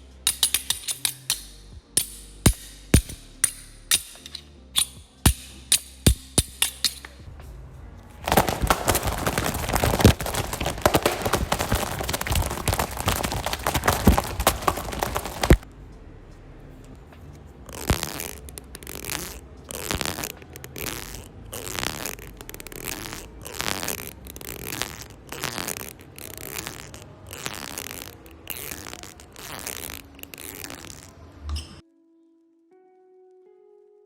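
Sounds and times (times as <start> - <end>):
foley crunching: 0.0 - 15.7, 17.0 - 31.8.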